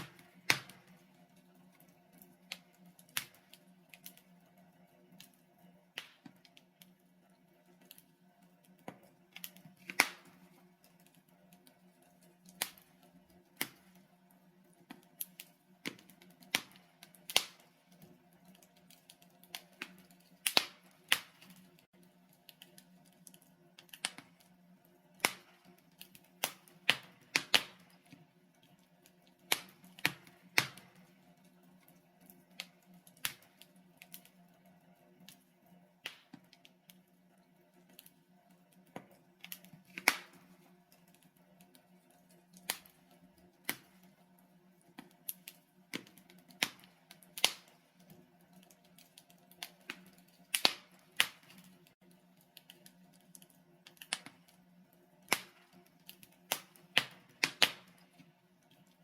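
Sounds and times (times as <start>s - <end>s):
wood logs crackling in fireplace: 0.0s - 59.0s.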